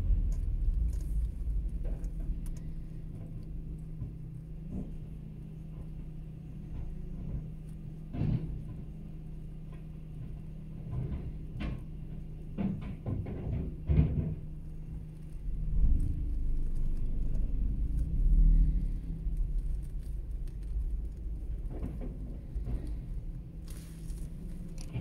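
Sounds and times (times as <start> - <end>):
garbage truck engine: 0.0 - 25.0.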